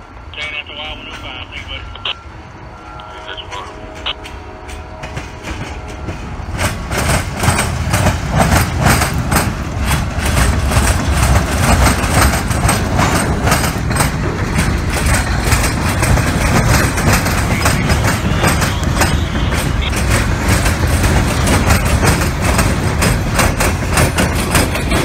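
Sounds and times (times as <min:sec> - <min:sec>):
diesel locomotive rumble: 0:00.0 - 0:25.0
train wheels clacking over rail joints: 0:03.3 - 0:25.0.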